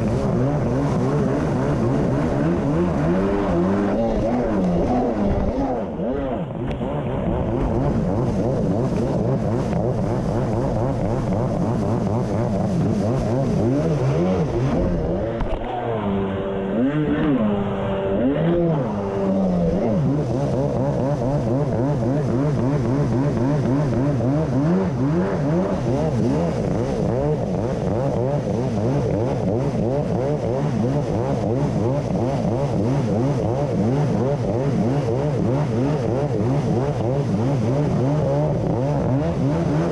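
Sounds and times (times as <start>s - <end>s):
jet ski engine revving: 0.0s - 39.9s.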